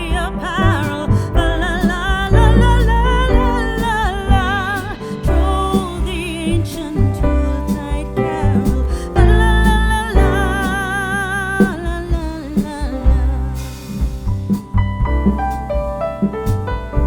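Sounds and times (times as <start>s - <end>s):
song with vibrato singing: 0.0s - 14.3s.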